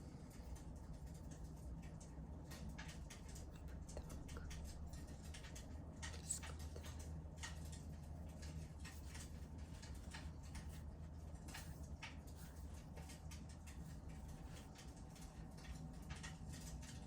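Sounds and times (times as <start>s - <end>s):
faint low hum: 0.0s - 17.0s
wood fire crackling: 0.0s - 17.0s.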